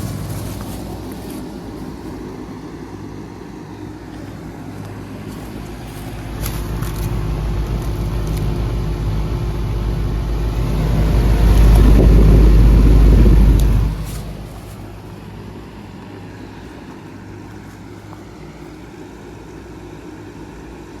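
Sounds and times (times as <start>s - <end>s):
heat pump low rumble: 0.0s - 21.0s
heat pump steady hum: 0.0s - 21.0s.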